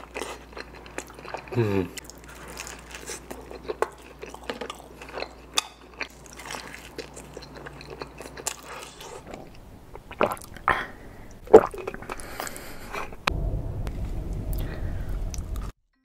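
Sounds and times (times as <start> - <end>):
wet chewing: 0.0 - 13.3.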